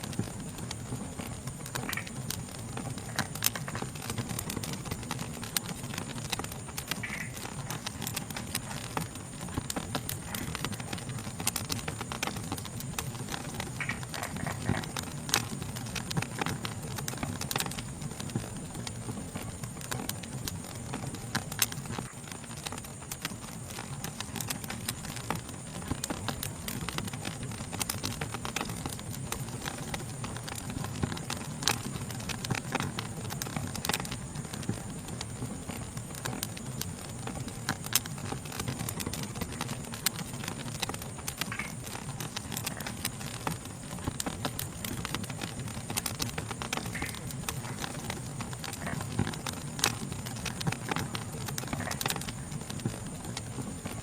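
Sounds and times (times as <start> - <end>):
fire crackling and popping: 0.0 - 54.0
night insects chorus: 0.0 - 54.0.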